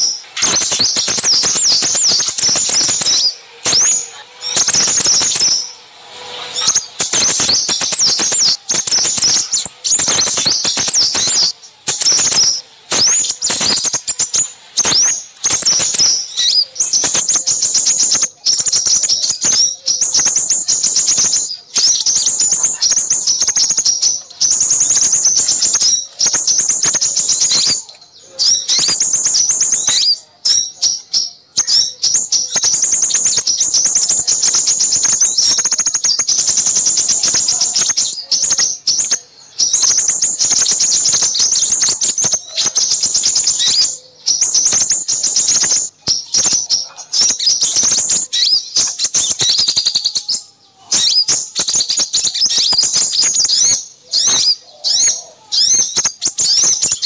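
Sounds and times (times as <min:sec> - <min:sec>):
small songbirds chirping and trilling: 0:00.0 - 0:57.0.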